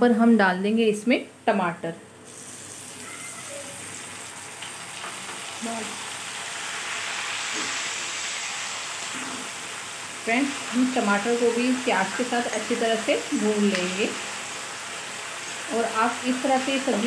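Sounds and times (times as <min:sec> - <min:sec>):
tomatoes sizzling in hot oil: 0:02.2 - 0:17.0.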